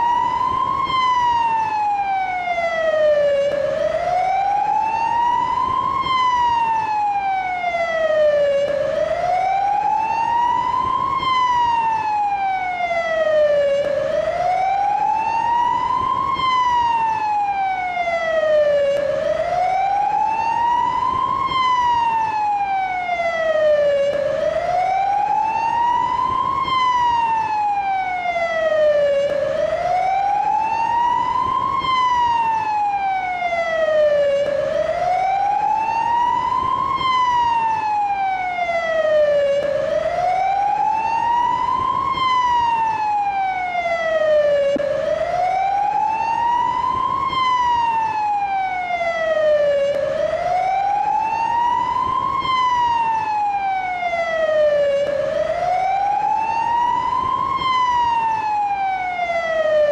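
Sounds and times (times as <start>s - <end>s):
ambulance siren wailing: 0.0s - 59.9s.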